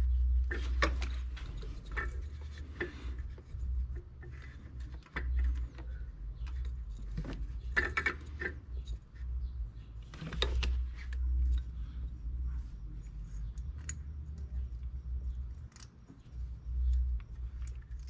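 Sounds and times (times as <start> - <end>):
steady low rumble: 0.0 - 18.0
hand tools and engine parts clinking: 0.5 - 18.0.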